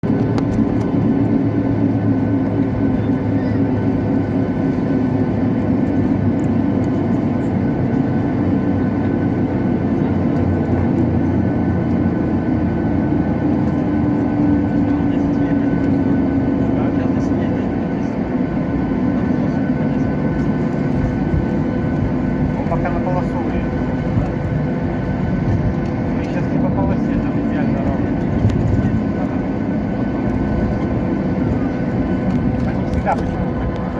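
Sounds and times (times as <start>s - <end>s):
airplane cabin engine hum: 0.0s - 33.9s.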